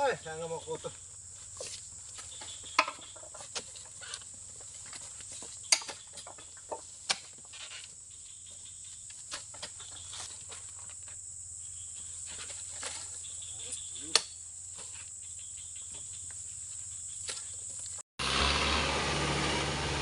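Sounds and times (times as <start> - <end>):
insect chirring: 0.0 - 18.0.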